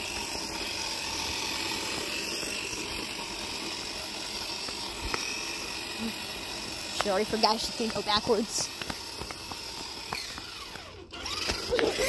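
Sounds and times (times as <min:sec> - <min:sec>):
toy car electric motor whirring: 0:00.0 - 0:12.0.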